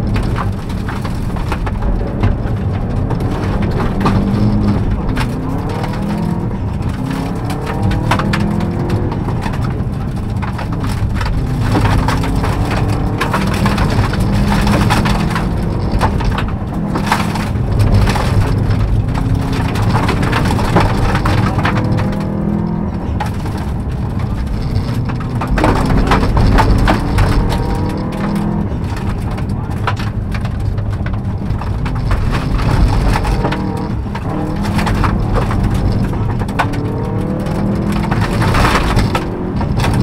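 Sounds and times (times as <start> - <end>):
gravel clattering against underbody: 0.0 - 40.0
rally car engine pulling hard: 0.0 - 40.0.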